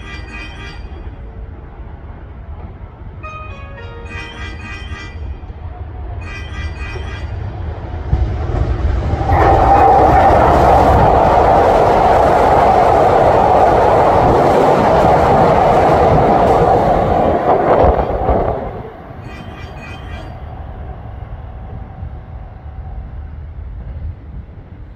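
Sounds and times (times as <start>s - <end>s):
electric train passing: 0.0s - 24.9s.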